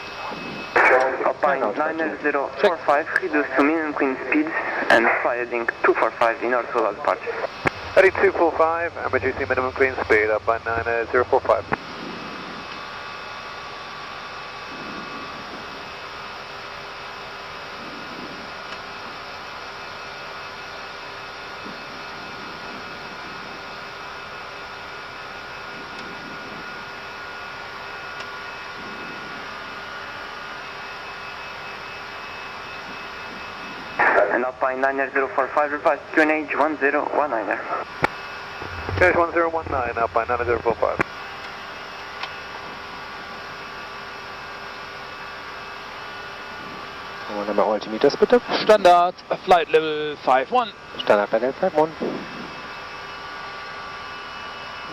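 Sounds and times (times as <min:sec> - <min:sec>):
airflow and ventilation hiss: 0:00.0 - 0:54.9
steady hum tones: 0:00.0 - 0:54.9.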